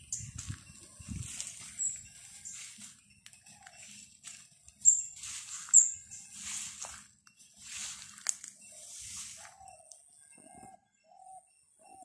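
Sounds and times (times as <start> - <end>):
footsteps through grass: 0.0 - 10.0
sharp high chirps: 0.0 - 12.0.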